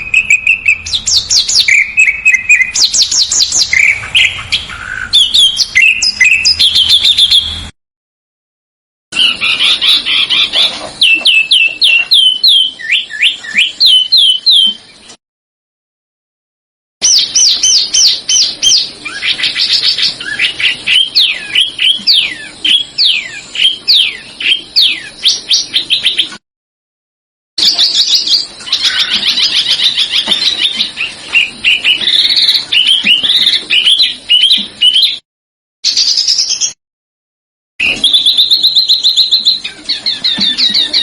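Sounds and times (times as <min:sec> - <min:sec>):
songbird singing whistled notes: 0:00.0 - 0:07.7, 0:09.2 - 0:15.1, 0:17.0 - 0:26.4, 0:27.6 - 0:35.2, 0:35.9 - 0:36.8, 0:37.8 - 0:41.0.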